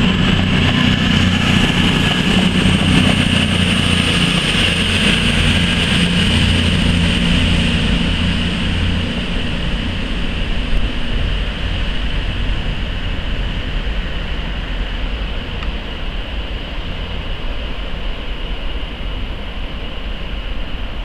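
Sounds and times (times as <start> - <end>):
diesel train engine drone: 0.0 - 21.0
rail noise: 0.0 - 21.0.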